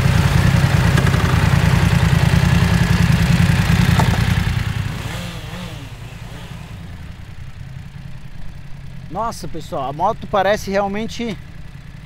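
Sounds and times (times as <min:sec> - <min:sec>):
motorcycle engines idling: 0:00.0 - 0:12.0
motorcycles pulling away: 0:00.0 - 0:12.0.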